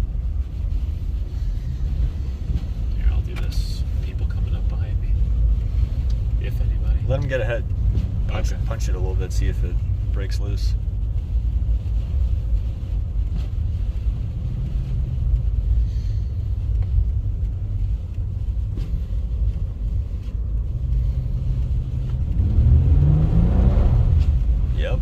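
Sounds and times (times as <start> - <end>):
car engine revving: 1.4 - 25.0.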